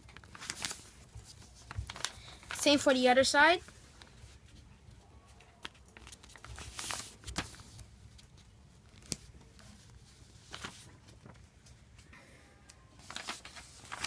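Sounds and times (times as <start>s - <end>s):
paper being folded and creased: 0.0s - 3.0s, 3.6s - 12.0s, 13.0s - 14.0s.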